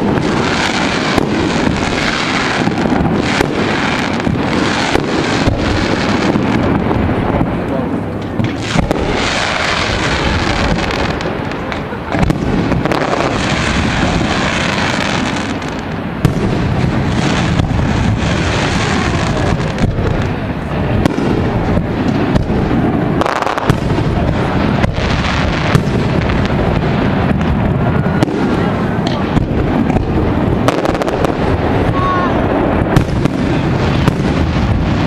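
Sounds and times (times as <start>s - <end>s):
fireworks bangs and crackling: 0.0s - 35.0s.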